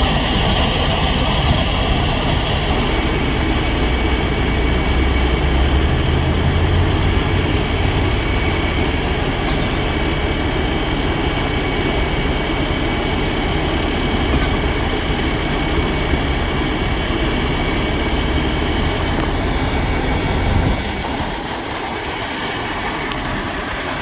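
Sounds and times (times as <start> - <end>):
diesel engine rumble: 0.0 - 24.0
faint steady whine: 0.0 - 24.0.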